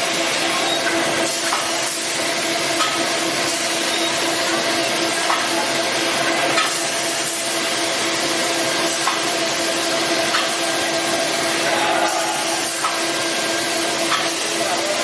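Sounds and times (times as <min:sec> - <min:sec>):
filling machine hiss and hum: 0:00.0 - 0:15.0.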